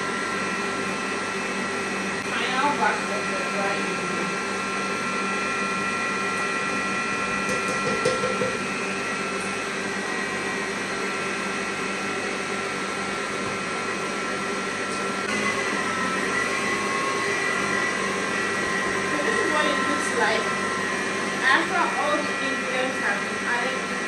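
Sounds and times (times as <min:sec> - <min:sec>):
stand mixer motor whining: 0:00.0 - 0:24.0.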